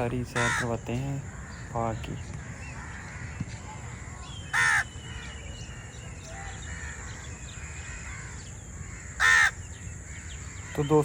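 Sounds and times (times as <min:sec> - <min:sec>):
crow cawing: 0:00.0 - 0:11.0
small birds chirping: 0:00.0 - 0:11.0.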